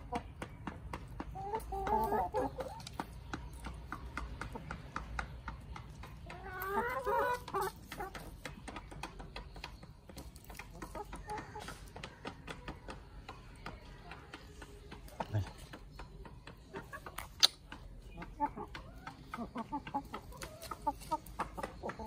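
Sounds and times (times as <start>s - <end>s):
chickens clucking: 0.0s - 22.0s
hens pecking ground: 0.0s - 22.0s.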